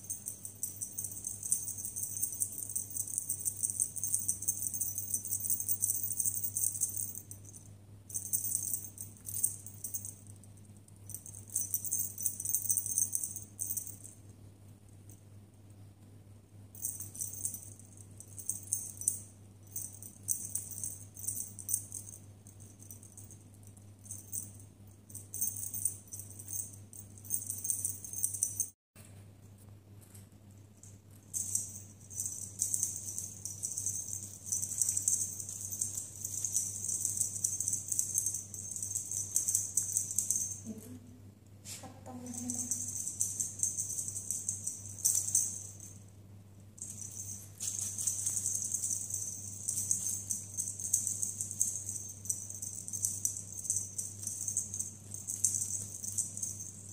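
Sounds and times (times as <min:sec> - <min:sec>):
toy wand rattling jingles: 0:00.0 - 0:10.4, 0:11.1 - 0:14.1, 0:16.8 - 0:28.8, 0:30.9 - 0:40.8, 0:42.2 - 0:46.1, 0:46.8 - 0:56.9
low steady hum: 0:00.0 - 0:56.9.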